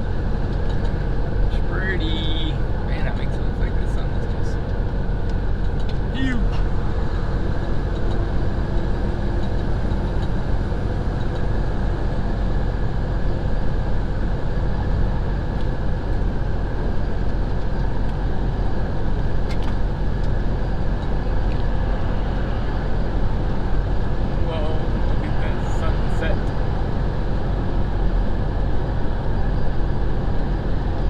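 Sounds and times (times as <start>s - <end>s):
diesel engine drone: 0.0s - 31.0s
tyre and road noise: 0.0s - 31.0s.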